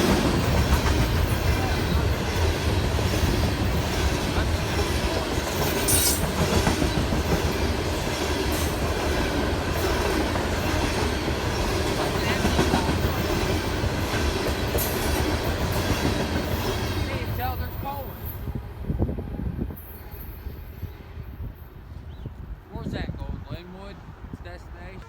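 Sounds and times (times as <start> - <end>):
train cars rumbling past: 0.0 - 22.2.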